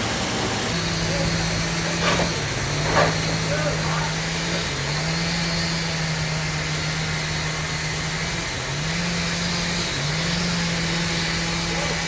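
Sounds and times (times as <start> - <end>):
sawmill machinery engine running: 0.0 - 12.0.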